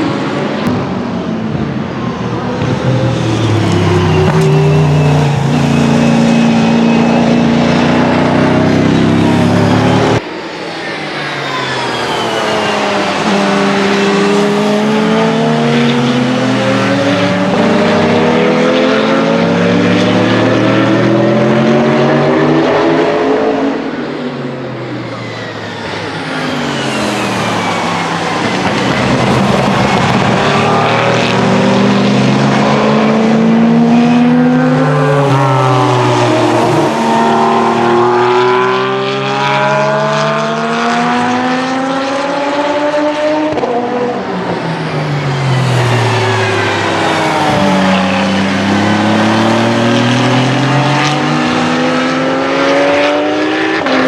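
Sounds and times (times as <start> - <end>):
racing cars accelerating past: 0.0 - 54.0.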